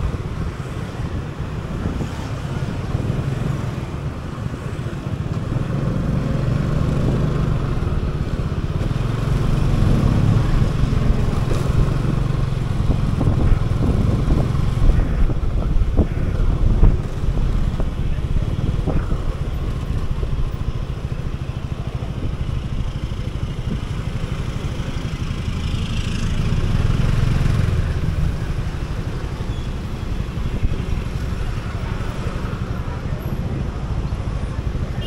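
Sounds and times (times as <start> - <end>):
wind rumble on microphone: 0.0 - 34.8
passing traffic: 0.0 - 35.0.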